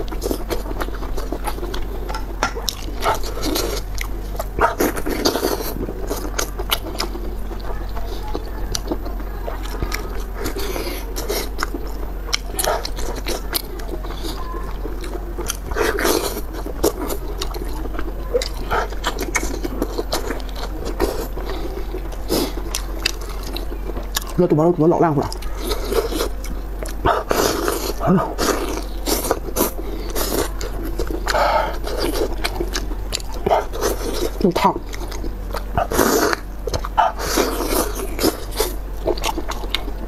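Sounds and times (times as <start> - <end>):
wet chewing: 0.0 - 40.0.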